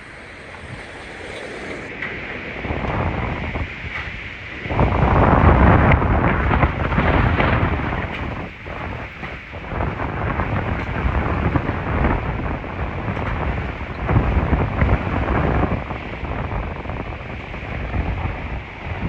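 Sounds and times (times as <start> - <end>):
wind gusting against microphone: 0.0 - 19.0.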